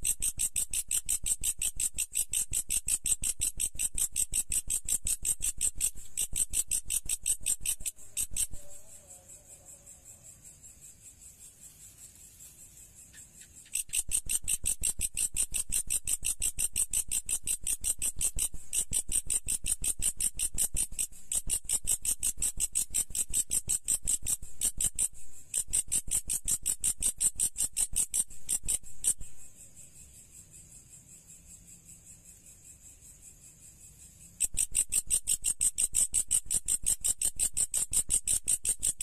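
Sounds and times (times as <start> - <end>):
insect chirping: 0.0 - 39.0.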